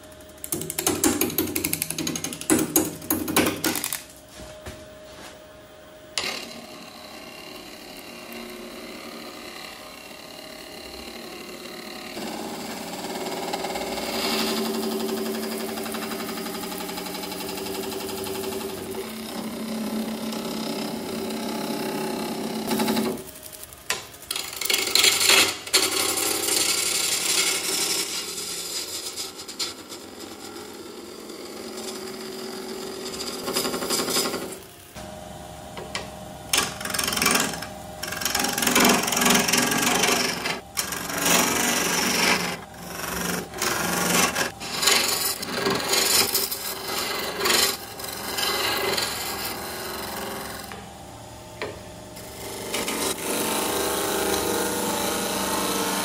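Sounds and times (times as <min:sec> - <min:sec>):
gouge cutting on wood lathe: 0:06.2 - 0:23.3, 0:23.9 - 0:35.2, 0:35.8 - 0:51.0, 0:51.6 - 0:56.0.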